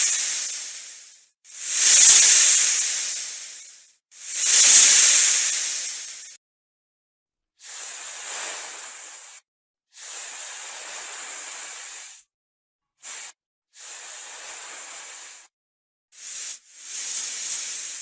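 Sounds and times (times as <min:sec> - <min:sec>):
snake hissing: 0:00.0 - 0:06.4, 0:07.6 - 0:09.4, 0:10.0 - 0:12.3, 0:13.0 - 0:15.5, 0:16.2 - 0:18.0.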